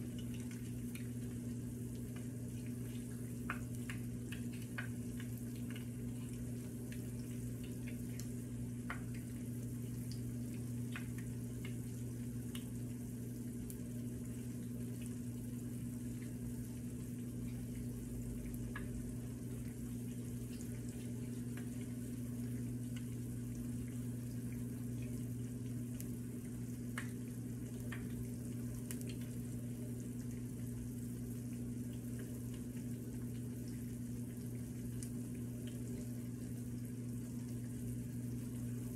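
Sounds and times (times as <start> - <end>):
batter sizzling in oil: 0.0 - 38.9.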